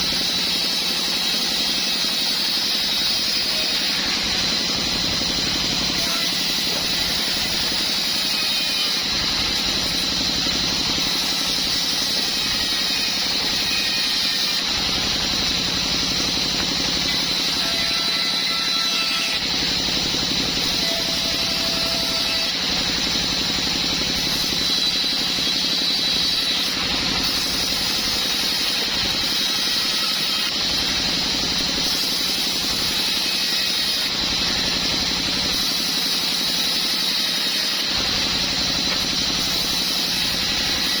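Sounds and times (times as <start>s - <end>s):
wood saw machine humming: 2.2s - 41.0s.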